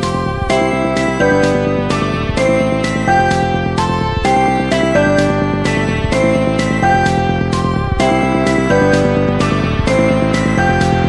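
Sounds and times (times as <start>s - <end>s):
rhythmic background music: 0.0s - 11.0s.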